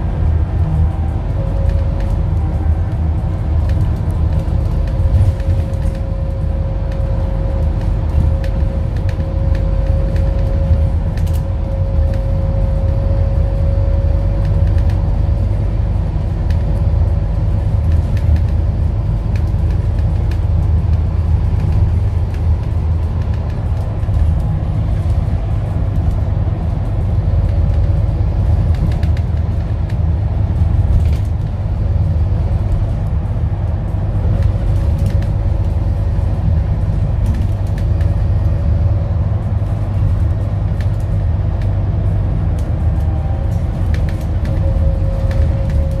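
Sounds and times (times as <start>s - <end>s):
diesel bus engine rumbling: 0.0s - 46.0s.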